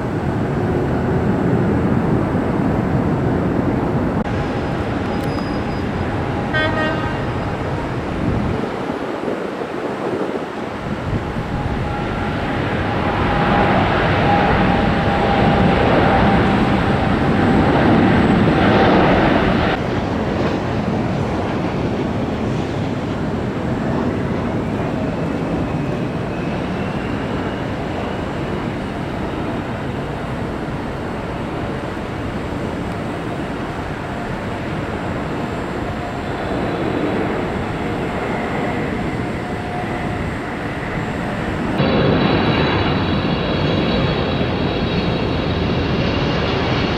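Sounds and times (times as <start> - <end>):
jet engine roar and whine: 0.0 - 46.9.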